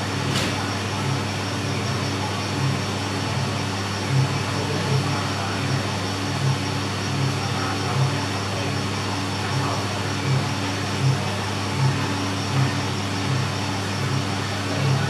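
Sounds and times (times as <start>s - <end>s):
coffee roaster motor and fan hum: 0.0s - 15.0s.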